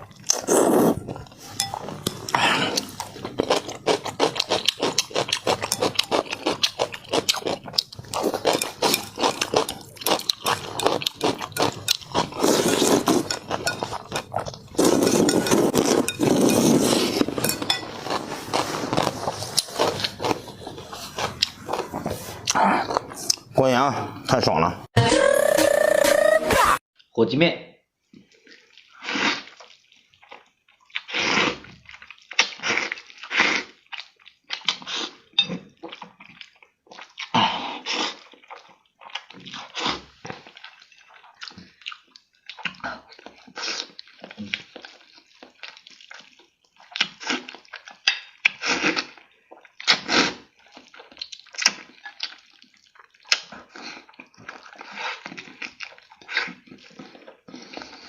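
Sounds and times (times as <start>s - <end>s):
slurping and chewing noodles: 0.0s - 23.8s, 28.2s - 58.0s.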